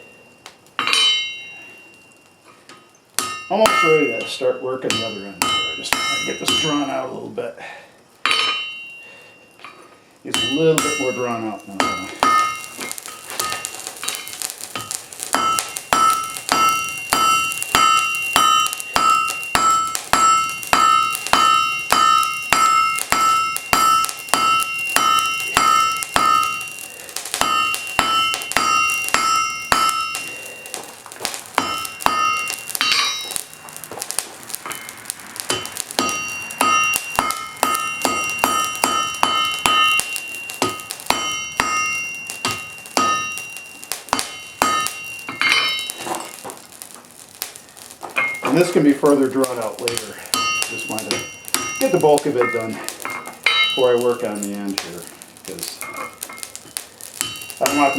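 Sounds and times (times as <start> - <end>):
hammer striking iron on anvil: 0.8 - 1.8, 2.7 - 7.1, 8.2 - 9.0, 10.3 - 46.6, 48.0 - 54.9, 55.8 - 57.9.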